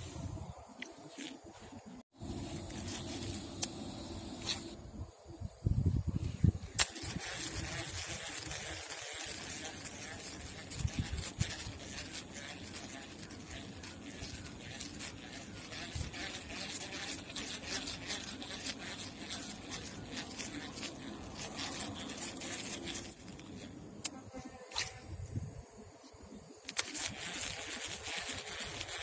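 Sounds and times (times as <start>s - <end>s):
irregular scraping and rubbing: 0.0s - 4.8s, 6.2s - 25.0s, 26.1s - 29.0s.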